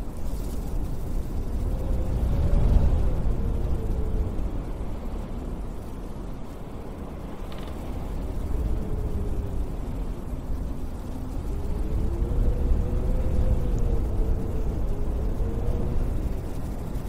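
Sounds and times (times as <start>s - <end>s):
wind rumbling and whistling: 0.0s - 17.0s.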